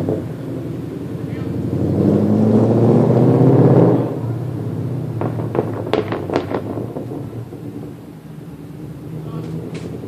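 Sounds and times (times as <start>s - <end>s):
exhaust cracks: 0.0s - 8.1s, 8.8s - 10.0s
car engine rumble: 0.0s - 10.0s.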